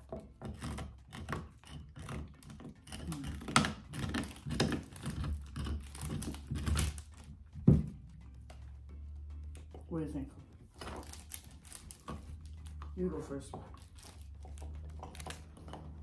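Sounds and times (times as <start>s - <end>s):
dog chewing on a bone: 0.0s - 8.6s, 10.7s - 16.0s.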